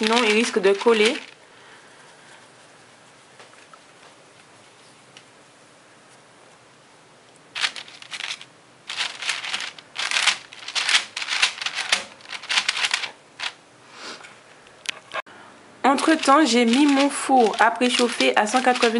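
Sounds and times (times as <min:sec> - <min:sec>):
hands rustling against parchment paper: 0:00.0 - 0:06.7, 0:07.5 - 0:13.6, 0:15.9 - 0:18.9.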